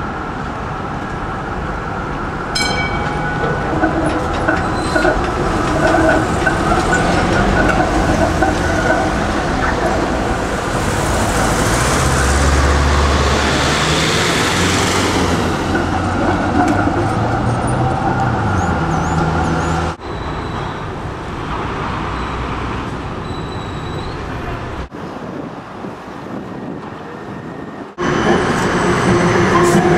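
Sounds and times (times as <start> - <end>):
electric tram humming: 0.0 - 29.9
street traffic: 0.0 - 29.9
tram wheels rumbling on rails: 0.0 - 29.9.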